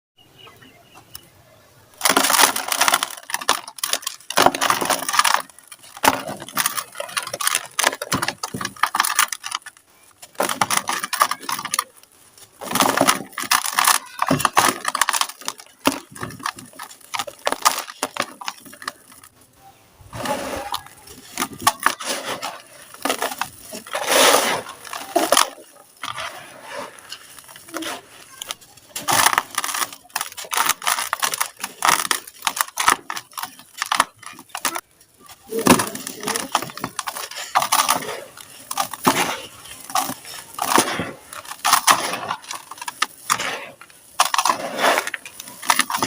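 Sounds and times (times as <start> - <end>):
sand-cement crunching by hand: 2.0 - 19.4, 20.1 - 46.0.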